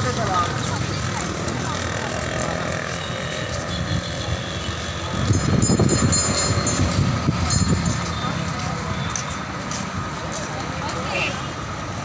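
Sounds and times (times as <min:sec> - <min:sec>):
rumble of road traffic: 0:00.0 - 0:12.0.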